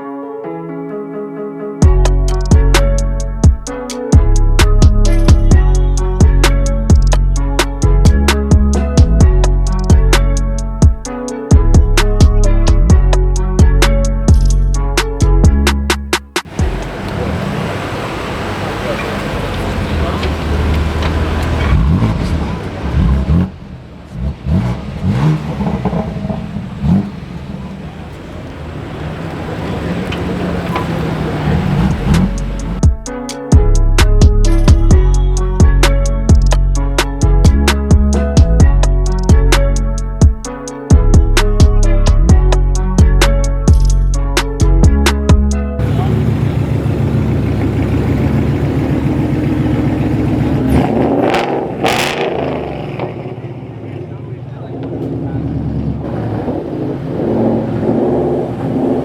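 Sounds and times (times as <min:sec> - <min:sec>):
car engine revving: 0:01.8 - 0:40.3, 0:40.9 - 0:59.0
car engine idling: 0:01.8 - 0:59.0.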